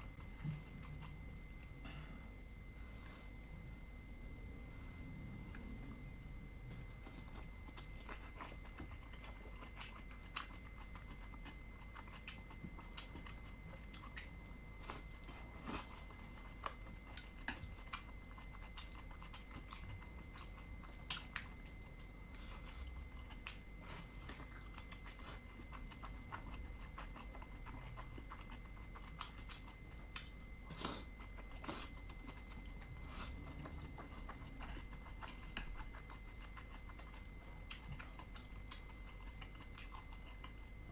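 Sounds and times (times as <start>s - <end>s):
faint steady high tone: 0.0s - 40.9s
close chewing clicks: 7.0s - 40.9s.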